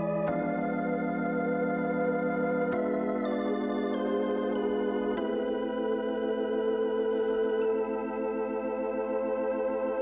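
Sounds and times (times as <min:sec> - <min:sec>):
music of slow held chords: 0:00.0 - 0:10.0.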